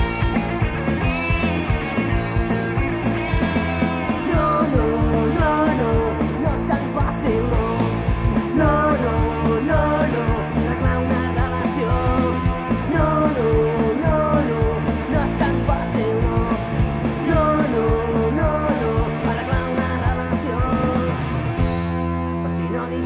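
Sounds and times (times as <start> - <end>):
drums with hi-hat ticks: 0.0 - 22.0
bass guitar: 0.0 - 23.0
bending lead guitar melody: 0.0 - 23.0
electric guitars: 0.0 - 23.0.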